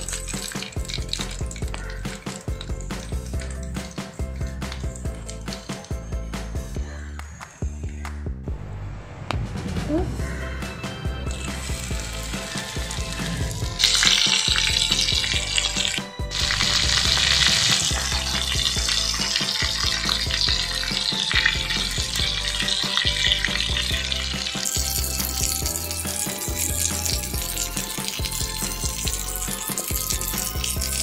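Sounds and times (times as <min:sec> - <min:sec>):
prawns sizzling in hot oil: 0:00.0 - 0:05.9, 0:11.2 - 0:31.0.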